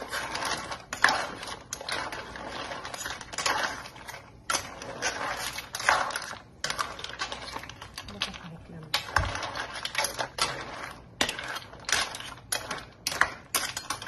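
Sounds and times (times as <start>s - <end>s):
clams clattering in a frying pan: 0.0s - 14.0s
metal spoon stirring and scraping: 0.0s - 14.0s.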